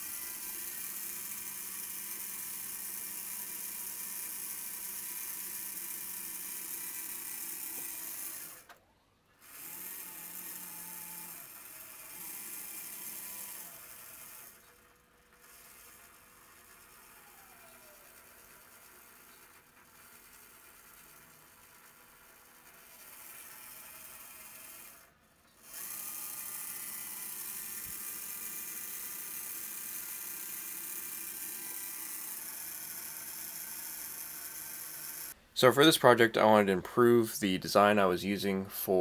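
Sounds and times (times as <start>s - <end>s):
servo motor whirring: 0.0s - 35.4s.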